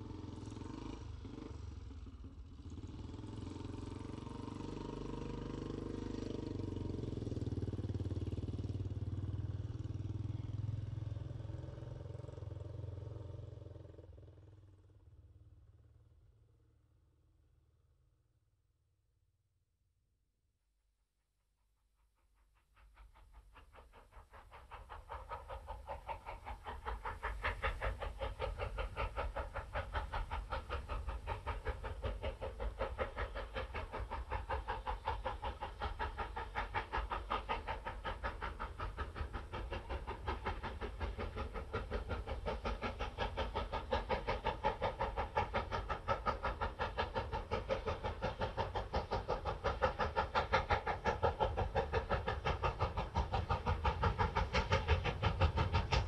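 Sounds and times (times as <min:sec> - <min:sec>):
train rhythmic clatter: 0:00.0 - 0:15.0, 0:21.6 - 0:56.0.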